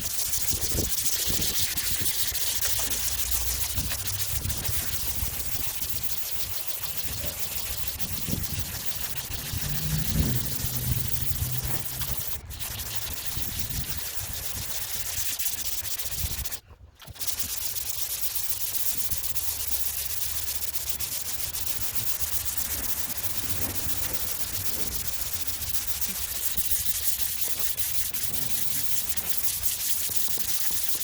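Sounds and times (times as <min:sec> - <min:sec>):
sandpaper rasping on metal: 0:00.0 - 0:31.0.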